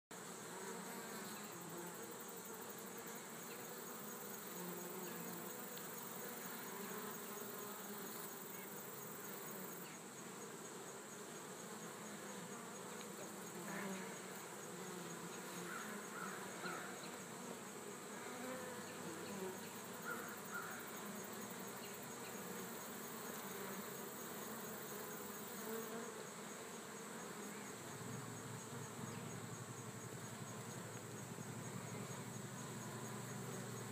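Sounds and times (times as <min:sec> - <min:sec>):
bees buzzing: 0:00.2 - 0:33.9.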